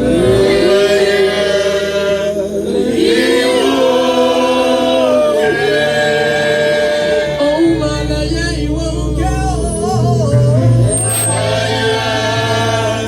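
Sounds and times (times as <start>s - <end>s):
voices singing gospel: 0.0s - 13.0s.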